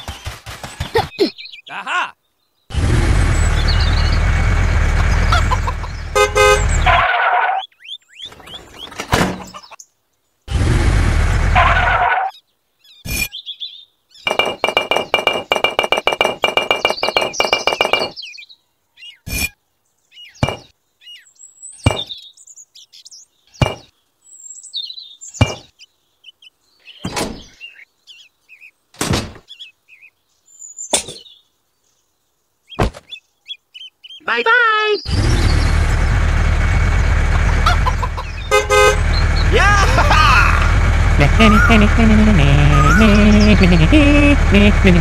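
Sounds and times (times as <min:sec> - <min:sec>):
birds chirping faintly: 0:00.0 - 0:10.5, 0:12.2 - 0:45.0.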